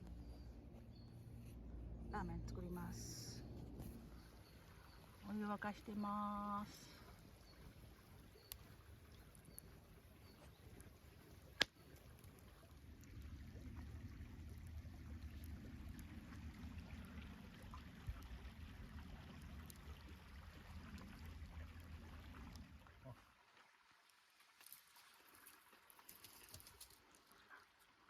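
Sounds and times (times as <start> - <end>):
water heating rumble: 0.0 - 23.8
faint crackles: 2.4 - 28.0.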